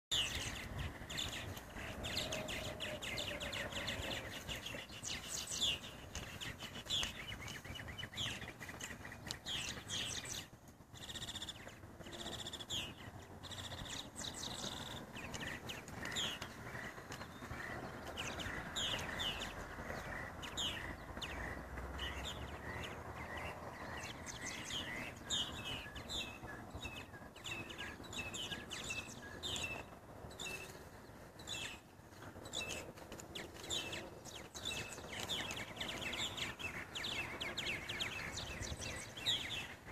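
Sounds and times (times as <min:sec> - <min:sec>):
birds chirping and chattering: 0:00.1 - 0:39.9.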